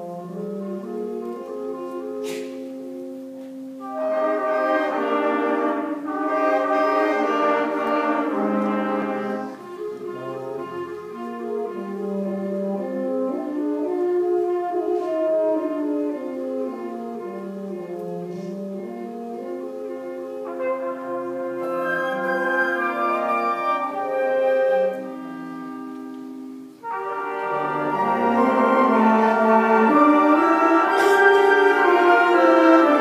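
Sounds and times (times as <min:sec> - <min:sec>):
concert band playing: 0:03.8 - 0:33.0.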